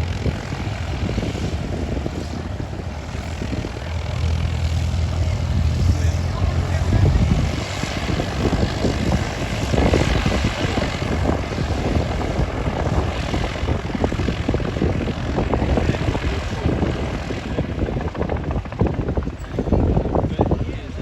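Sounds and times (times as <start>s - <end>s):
propeller piston engines roaring: 0.0s - 21.0s.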